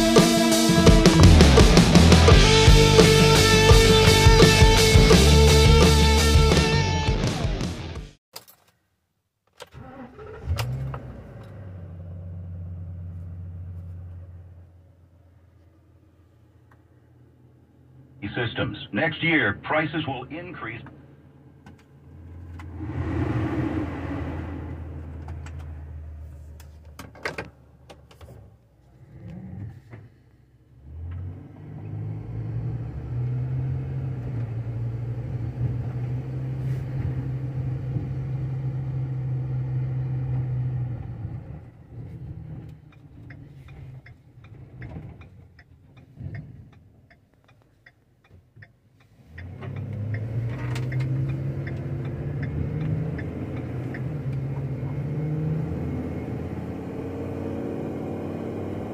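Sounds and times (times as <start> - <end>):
truck engine driving: 0.0 - 7.6, 9.8 - 28.1, 30.8 - 58.9.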